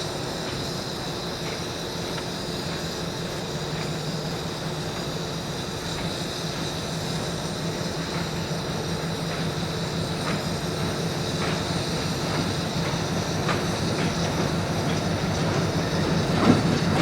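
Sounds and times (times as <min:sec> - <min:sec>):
train engine hum: 0:00.0 - 0:17.0.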